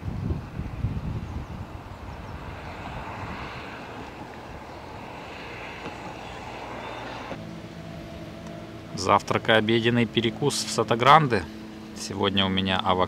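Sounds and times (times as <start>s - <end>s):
distant passing vehicle engine: 0.4s - 13.0s.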